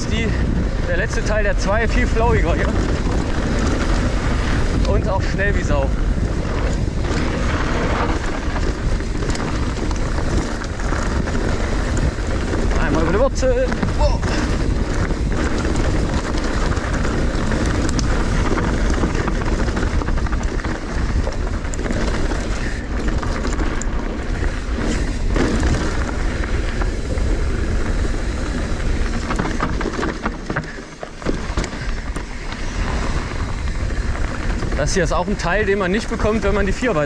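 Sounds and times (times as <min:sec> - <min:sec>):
bike clicks and rattles: 0:00.0 - 0:37.0
bike tyres rumbling over dirt: 0:00.0 - 0:37.0.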